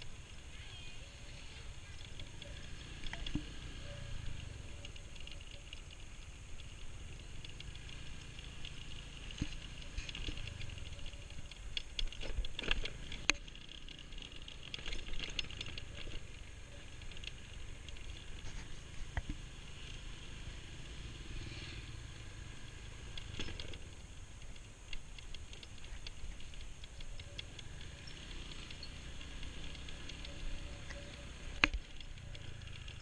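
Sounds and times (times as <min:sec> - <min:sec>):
bike rattling over bumps: 0:00.0 - 0:33.0
scooter engine rumble: 0:00.0 - 0:33.0.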